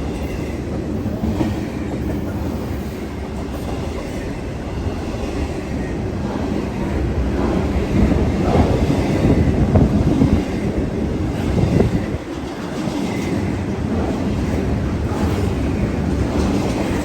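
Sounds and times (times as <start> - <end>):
freight train cars rumbling: 0.0 - 17.0.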